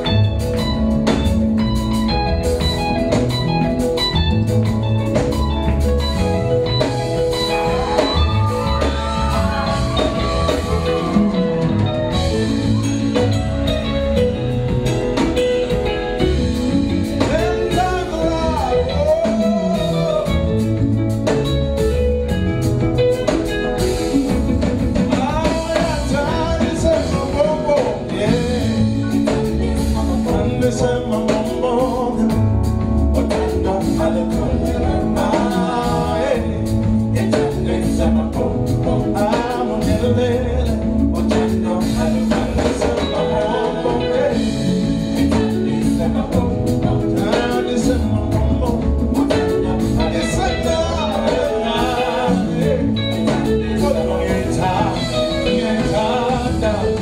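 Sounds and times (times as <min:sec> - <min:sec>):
live band music: 0:00.0 - 0:57.0
person singing: 0:04.9 - 0:21.5, 0:25.0 - 0:57.0.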